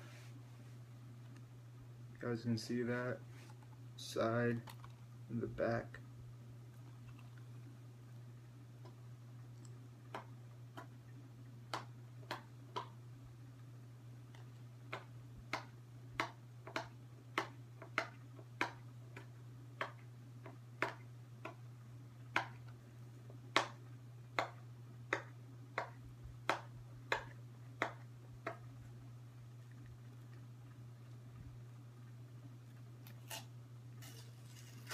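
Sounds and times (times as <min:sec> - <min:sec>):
low electrical hum: 0:00.0 - 0:34.9.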